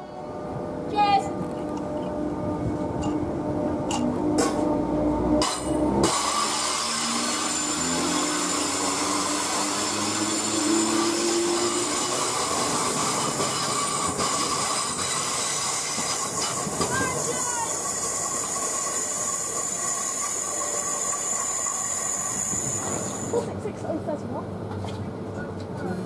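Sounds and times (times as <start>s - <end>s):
train wheel and rail rush: 0.0s - 26.0s.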